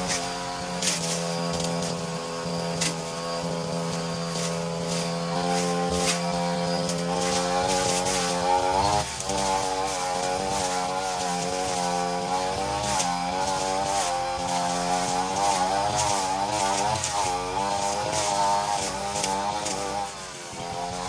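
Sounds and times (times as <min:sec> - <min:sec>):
brushcutter engine cutting grass: 0:00.0 - 0:21.0.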